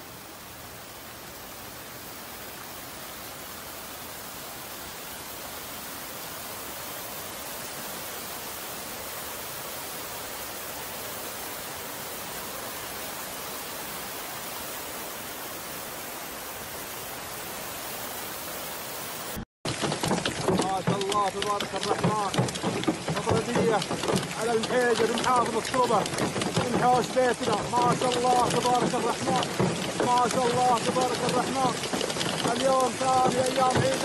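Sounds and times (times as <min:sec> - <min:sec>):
turbulent water rushing: 0:00.0 - 0:34.0.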